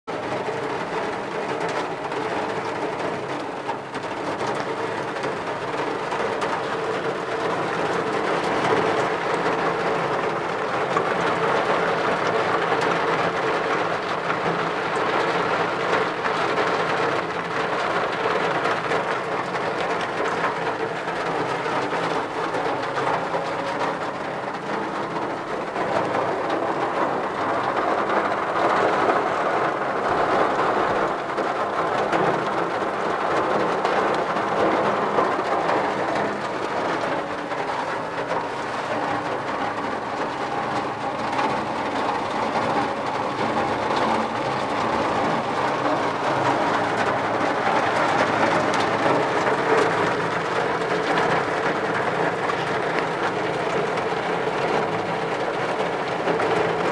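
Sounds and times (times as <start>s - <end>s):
rain on a vehicle roof: 0.0s - 56.9s.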